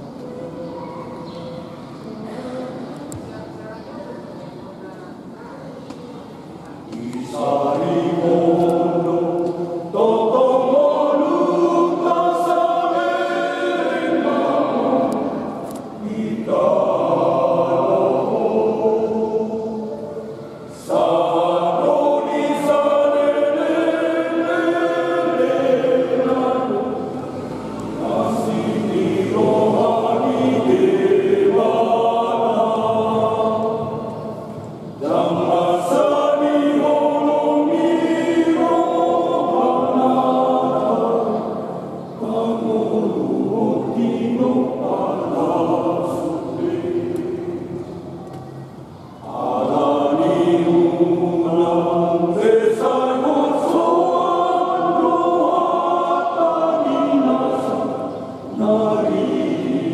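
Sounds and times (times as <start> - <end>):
men's choir singing a hymn: 6.8 - 48.2, 48.9 - 59.9.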